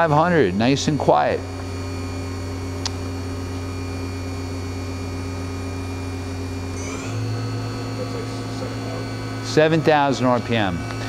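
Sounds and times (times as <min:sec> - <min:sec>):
machine spindle motor hum and whine: 0:00.0 - 0:11.0.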